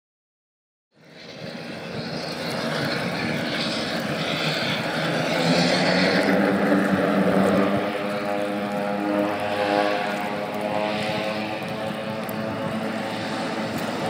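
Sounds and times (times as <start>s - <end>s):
turboprop engine and propeller: 0.9s - 14.0s.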